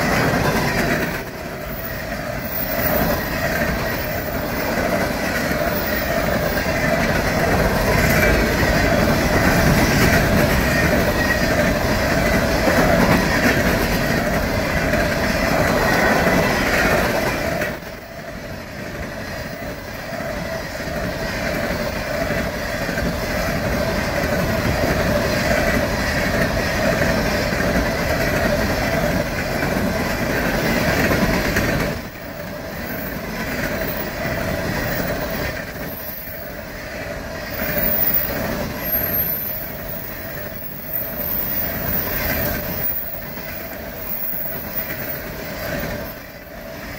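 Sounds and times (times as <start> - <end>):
train wheels rumbling and clattering: 0.0 - 46.9.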